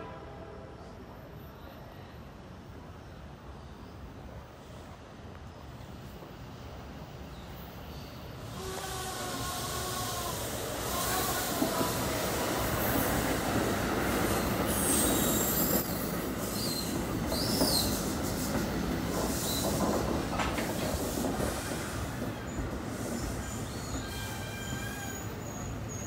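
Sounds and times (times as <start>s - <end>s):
train wheels rumbling on rail: 2.6s - 26.0s.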